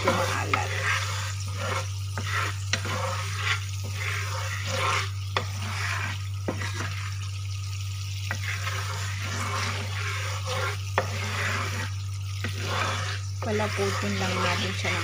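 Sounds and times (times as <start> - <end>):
spatula scraping bubbling sauce: 0.0 - 15.0.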